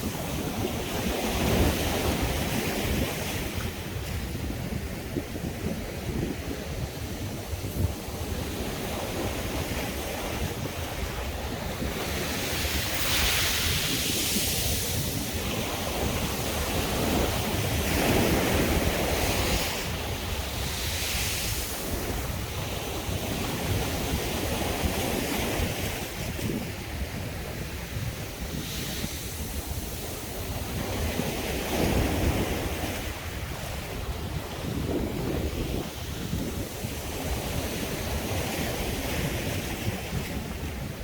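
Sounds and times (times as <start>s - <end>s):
sea waves breaking on beach: 0.0s - 41.0s.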